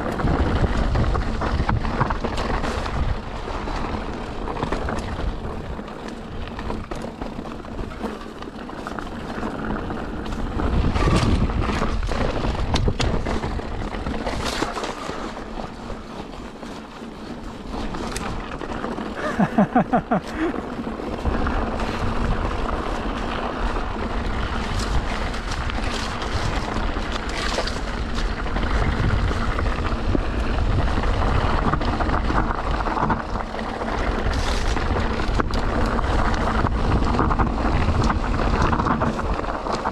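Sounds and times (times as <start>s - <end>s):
wind on microphone: 0.0s - 8.2s, 9.6s - 14.8s, 21.2s - 39.9s
mountain bike rattling: 0.0s - 39.9s.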